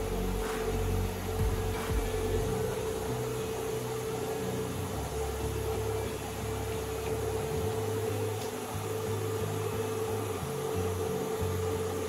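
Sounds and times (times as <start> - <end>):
extractor fan humming: 0.0 - 12.0.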